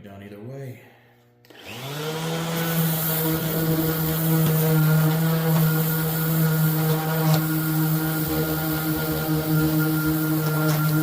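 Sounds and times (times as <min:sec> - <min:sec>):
power sander motor whine: 0:01.5 - 0:11.0.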